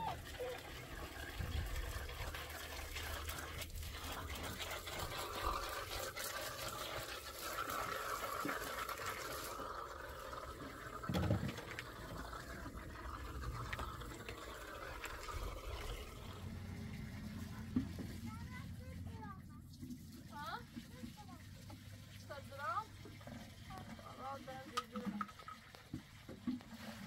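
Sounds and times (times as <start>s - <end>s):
hose water splashing into pool: 0.0s - 27.0s.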